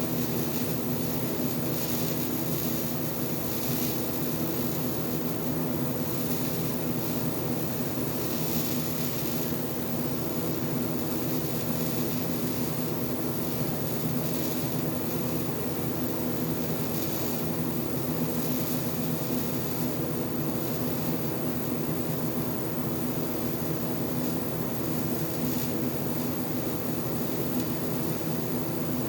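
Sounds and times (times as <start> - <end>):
welding arc buzzing hum: 0.0 - 29.0.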